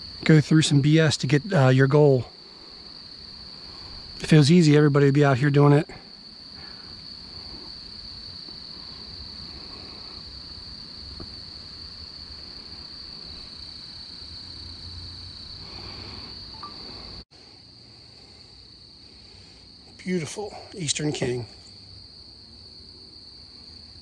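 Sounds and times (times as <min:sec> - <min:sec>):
insects buzzing trill: 0:00.0 - 0:24.0.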